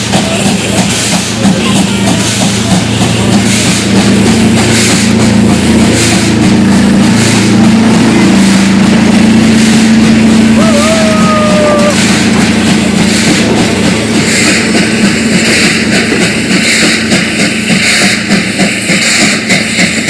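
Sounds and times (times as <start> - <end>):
steam locomotive exhaust beats: 0.0 - 20.0.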